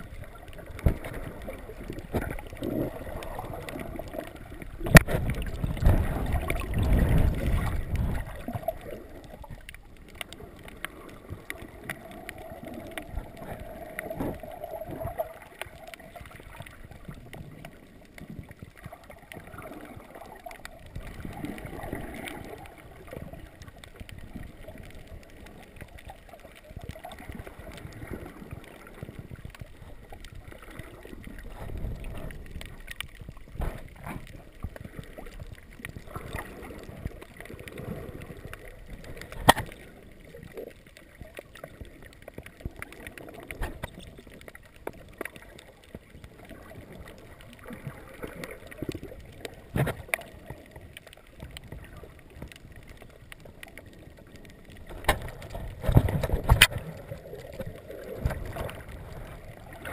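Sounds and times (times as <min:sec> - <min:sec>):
muffled underwater water sloshing: 0:00.0 - 0:59.9.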